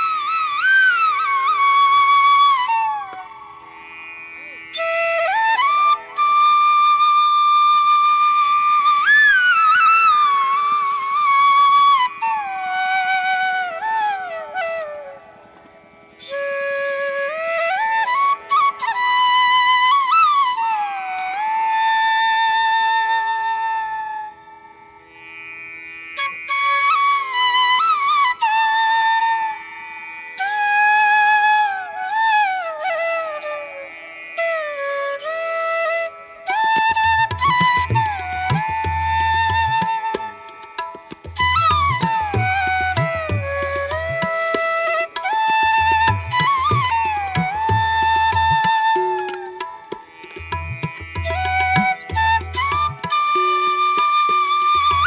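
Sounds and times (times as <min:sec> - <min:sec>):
flute-like melody: 0:00.0 - 0:03.8, 0:04.4 - 0:15.6, 0:16.2 - 0:24.8, 0:26.2 - 0:29.8, 0:30.4 - 0:55.0.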